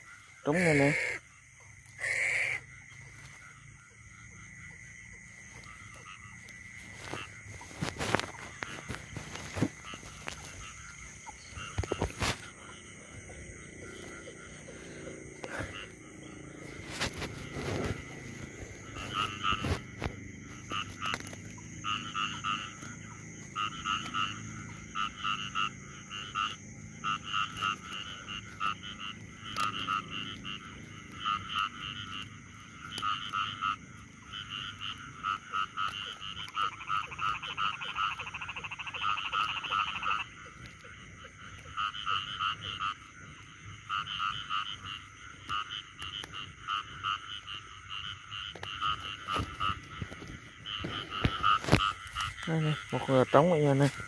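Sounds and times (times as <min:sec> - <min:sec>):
frogs croaking: 0:00.0 - 0:54.0.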